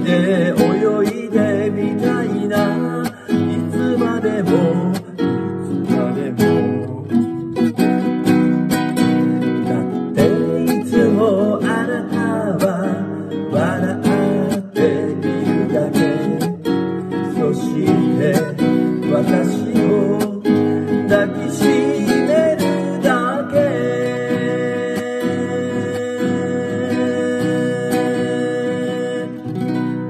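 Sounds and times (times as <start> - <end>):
classical guitar strumming chords: 0.0 - 30.0.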